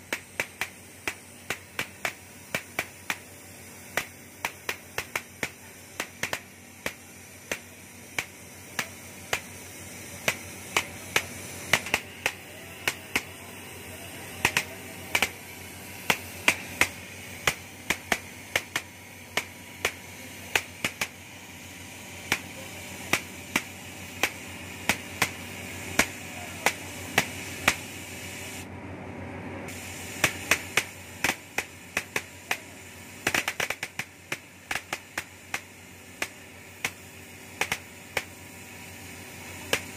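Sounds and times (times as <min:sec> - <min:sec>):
sharp crackling pops: 0:00.0 - 0:27.9, 0:29.8 - 0:38.6, 0:39.6 - 0:39.9
cutting torch hissing: 0:00.0 - 0:28.7, 0:29.7 - 0:39.9.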